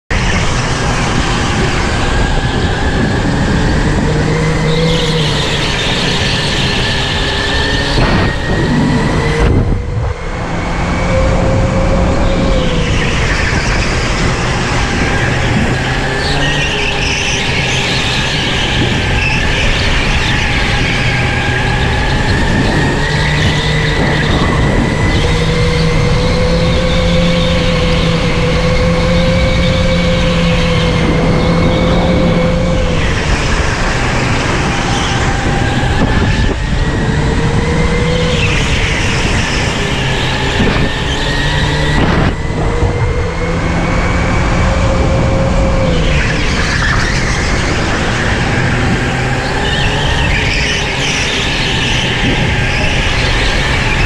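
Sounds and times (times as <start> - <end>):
electric motor whining: 0.3 - 54.0.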